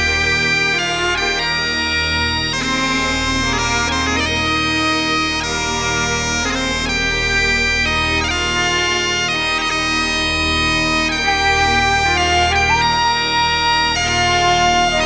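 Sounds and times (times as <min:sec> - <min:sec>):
bagpipe melody over drones: 0:00.0 - 0:15.0.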